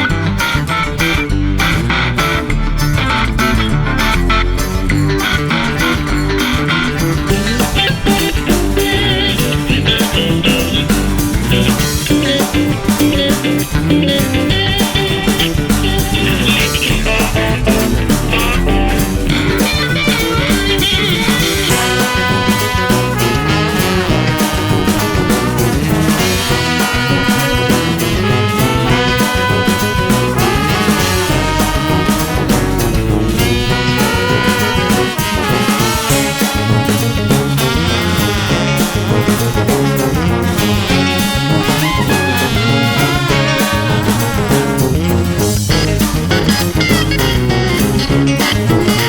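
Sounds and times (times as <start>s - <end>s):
rock music: 0.0s - 49.0s.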